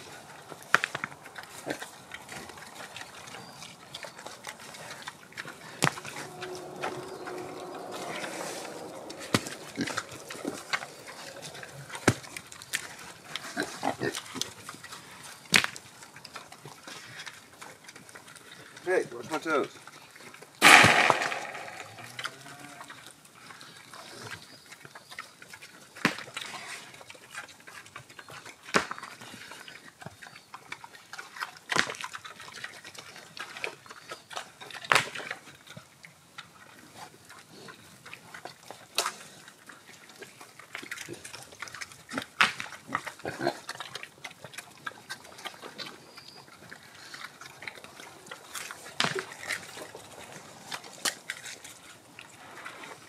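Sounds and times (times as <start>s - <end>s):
pigs rooting in rocky ground: 0.0s - 53.0s.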